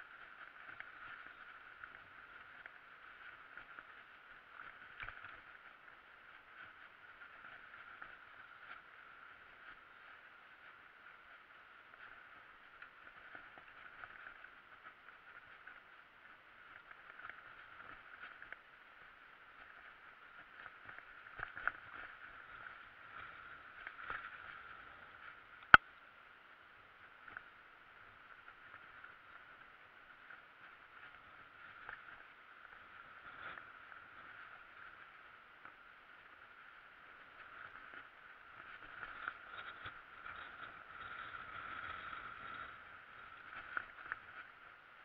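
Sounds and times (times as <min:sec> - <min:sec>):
bike rattling on trail: 0:00.0 - 0:26.0, 0:26.8 - 0:45.0.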